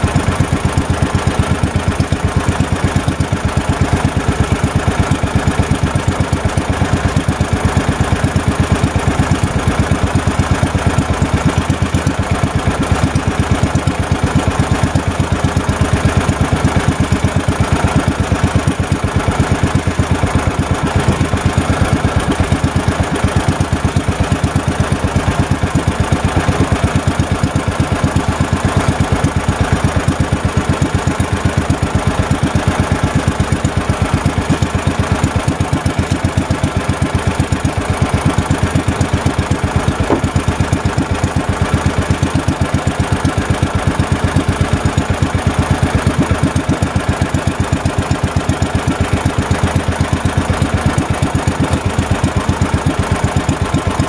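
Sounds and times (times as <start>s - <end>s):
small boat engine running: 0.0s - 54.0s.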